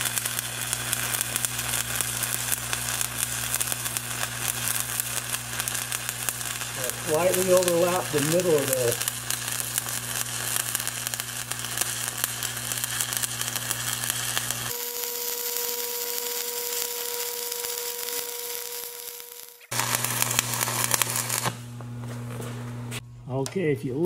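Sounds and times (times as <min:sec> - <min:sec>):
welding arc crackling: 0:00.0 - 0:23.0
steady whine: 0:00.0 - 0:23.2
low electrical hum: 0:00.0 - 0:24.0.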